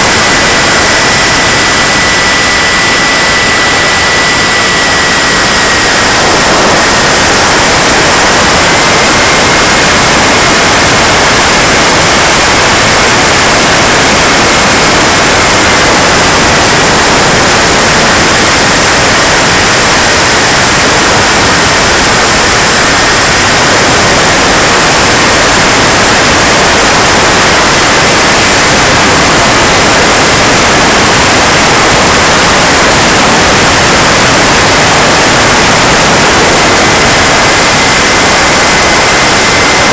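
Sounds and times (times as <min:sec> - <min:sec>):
high thin turbine whine: 0:00.0 - 0:39.9
jet turbine running: 0:00.0 - 0:39.9.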